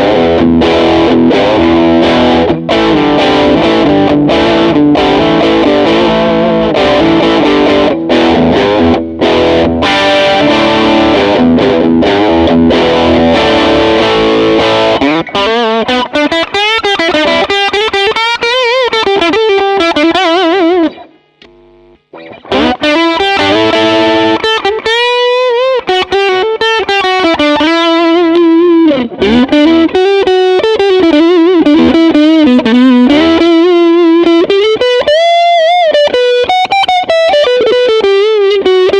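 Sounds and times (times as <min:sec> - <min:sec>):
electric guitar playing: 0:00.0 - 0:38.9.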